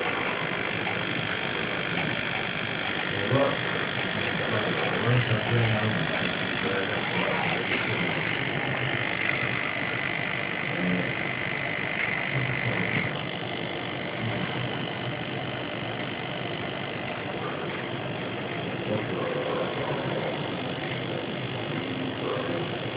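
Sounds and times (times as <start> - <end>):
constant noisy hum: 0.0 - 22.9
servo motor whining: 0.0 - 22.9.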